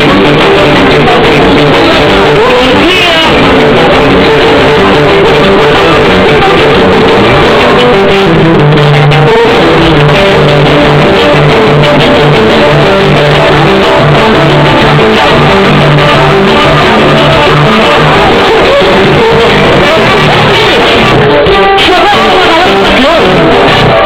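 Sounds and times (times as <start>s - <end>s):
loud music from truck speakers: 0.0s - 24.0s.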